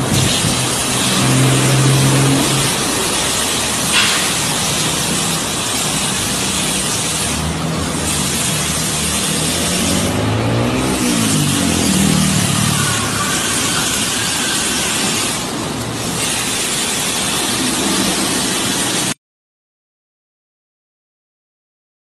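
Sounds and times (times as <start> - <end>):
car wash brushes spinning: 0.0 - 19.2.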